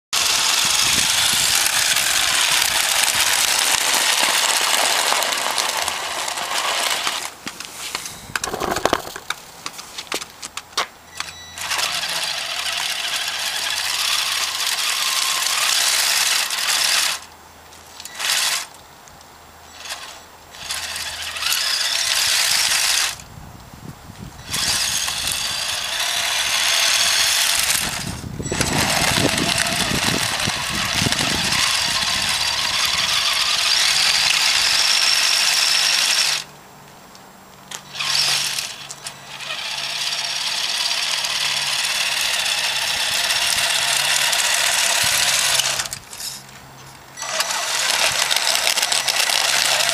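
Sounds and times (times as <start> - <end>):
toy truck motor hissing: 0.2 - 7.4, 11.6 - 17.3, 18.1 - 18.7, 19.7 - 23.2, 24.4 - 36.5, 37.7 - 46.4, 47.2 - 49.9.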